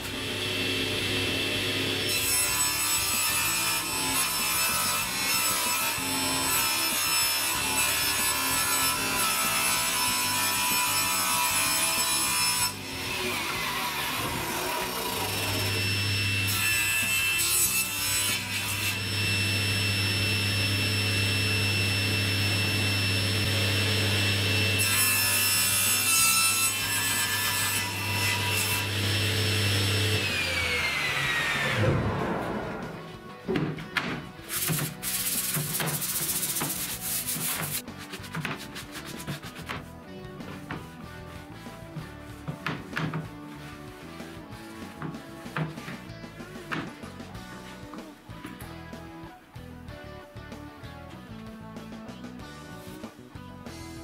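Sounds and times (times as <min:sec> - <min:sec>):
table saw ripping wooden boards: 0:00.0 - 0:41.0, 0:41.6 - 0:47.2.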